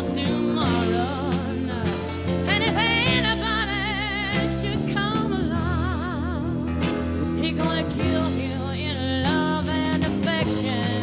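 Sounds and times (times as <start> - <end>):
soul song with band: 0.0 - 11.0.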